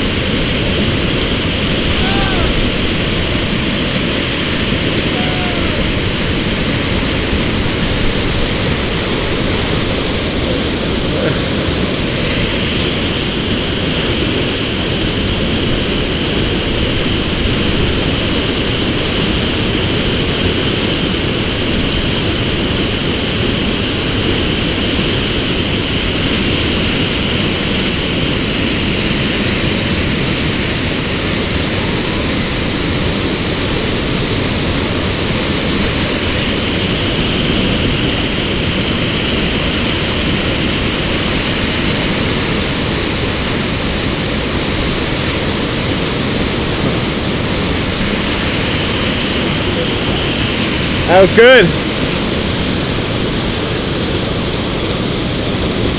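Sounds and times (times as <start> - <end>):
whitewater rapid rushing: 0.0 - 55.9.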